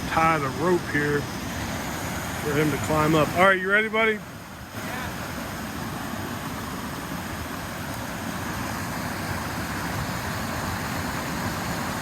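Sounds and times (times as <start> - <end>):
creek water pouring over rocks: 0.0 - 12.0.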